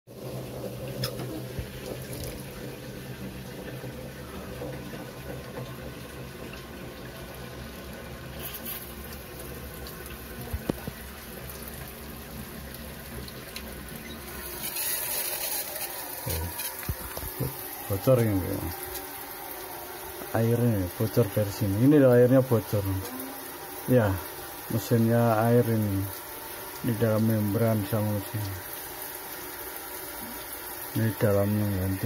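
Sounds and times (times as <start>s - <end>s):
water running: 0.1s - 32.0s.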